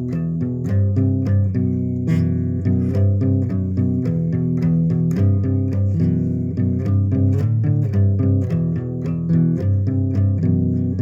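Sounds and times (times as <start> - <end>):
bass guitar: 0.0 - 11.0
plucked guitar melody: 0.0 - 11.0.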